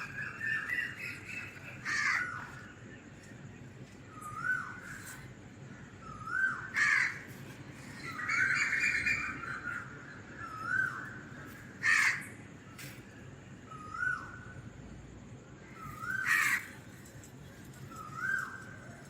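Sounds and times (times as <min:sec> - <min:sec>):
birds calling: 0:00.0 - 0:14.8, 0:15.5 - 0:19.0.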